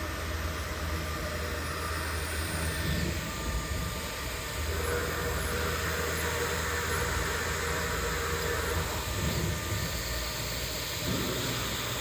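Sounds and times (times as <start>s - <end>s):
cnc router running: 0.0s - 12.0s
faint steady tones: 0.0s - 12.0s.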